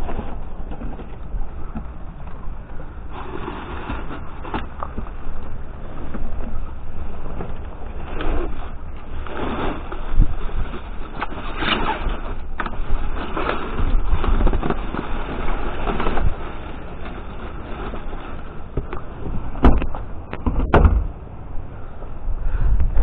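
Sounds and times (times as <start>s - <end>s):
rustling rubbish: 0.0s - 21.2s.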